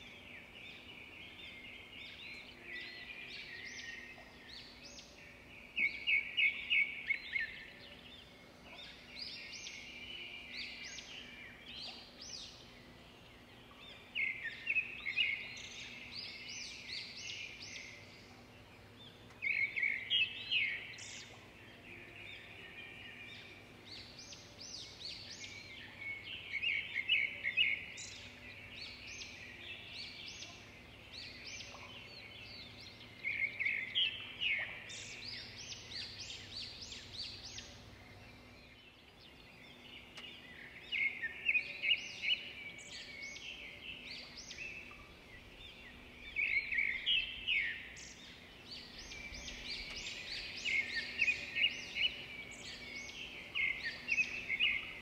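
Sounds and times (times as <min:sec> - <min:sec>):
faint steady hum: 0:00.0 - 0:55.0
small birds chirping: 0:00.0 - 0:55.0.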